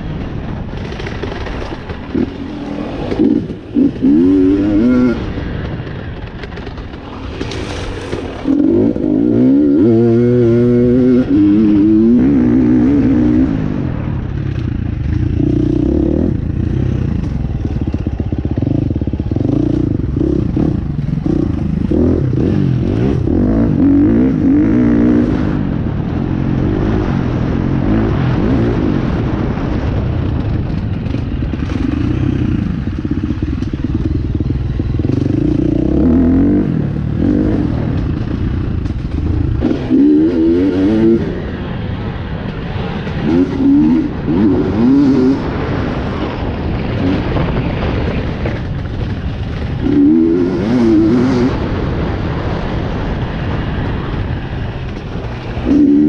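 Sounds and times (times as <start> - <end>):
dirt bike engine revving: 0.8 - 5.9, 7.4 - 41.8, 42.4 - 54.1, 54.9 - 56.0.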